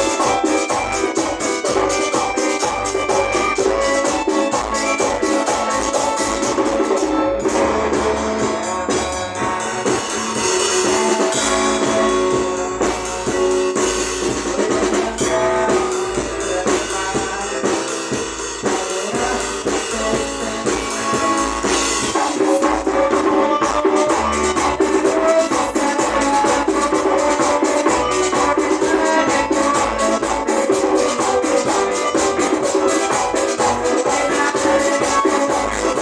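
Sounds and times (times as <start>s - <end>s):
steady drum beat: 0.0s - 36.0s
upbeat gospel music: 0.0s - 36.0s.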